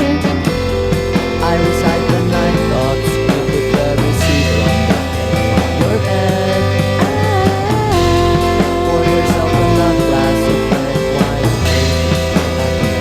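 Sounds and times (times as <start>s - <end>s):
pop band instrumental: 0.0s - 13.0s
sliding lead melody: 0.0s - 13.0s
steady drum beat: 0.0s - 13.0s.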